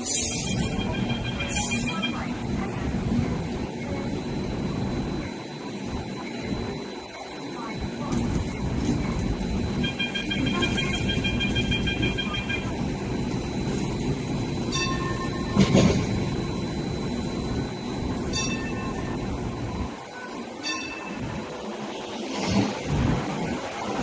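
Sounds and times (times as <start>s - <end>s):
pulsing door warning beep: 0.0s - 8.1s, 9.2s - 22.0s
tram rumbling: 0.0s - 24.0s.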